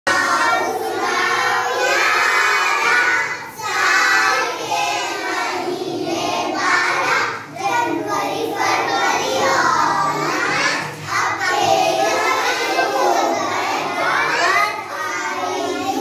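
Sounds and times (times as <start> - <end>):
children singing in unison: 0.1 - 16.0.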